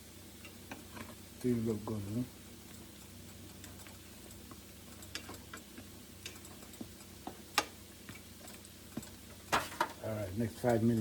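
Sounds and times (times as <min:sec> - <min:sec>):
dumplings frying in hot oil: 0:00.0 - 0:11.0.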